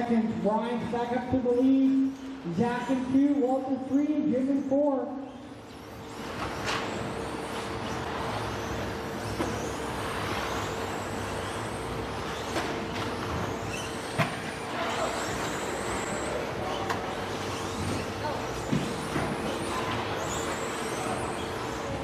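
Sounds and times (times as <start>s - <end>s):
steady noisy bed: 0.0s - 22.0s
high-pitched electric motor whine: 1.2s - 22.0s.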